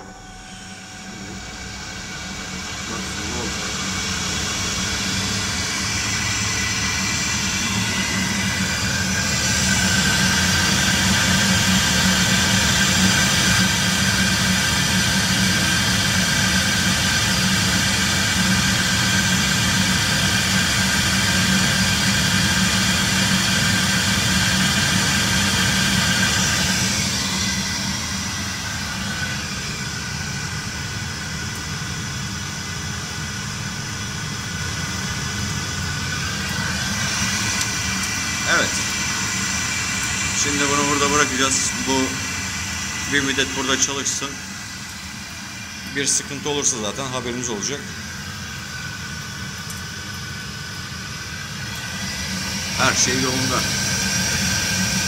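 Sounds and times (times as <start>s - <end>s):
boiler fan speeding up: 0.0s - 55.0s
gas burner firing: 0.0s - 55.0s.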